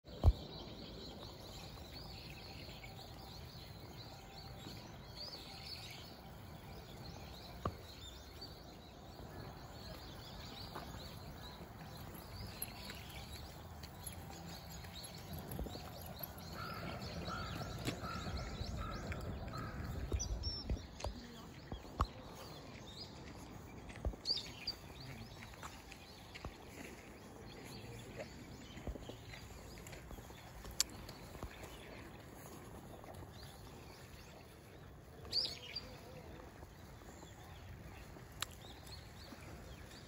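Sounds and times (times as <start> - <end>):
birds chirping and twittering: 0.0 - 40.0.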